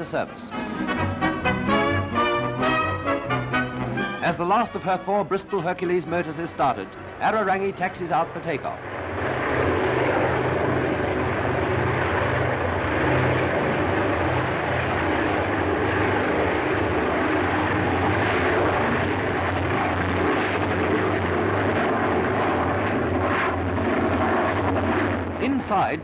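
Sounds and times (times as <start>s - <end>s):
aircraft propeller engines droning: 0.0s - 26.0s.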